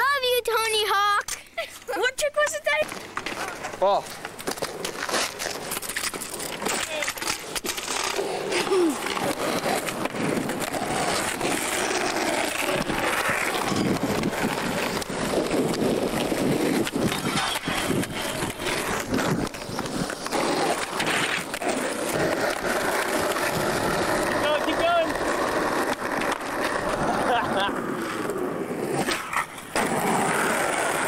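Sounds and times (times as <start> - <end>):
skateboard wheels rumbling on concrete: 1.9 - 31.0
skateboard clacks and knocks: 2.8 - 28.2.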